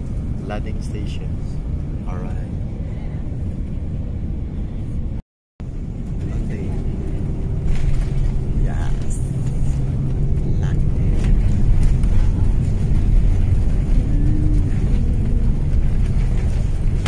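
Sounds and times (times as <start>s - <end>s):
airliner engines and rushing air: 0.0s - 17.0s.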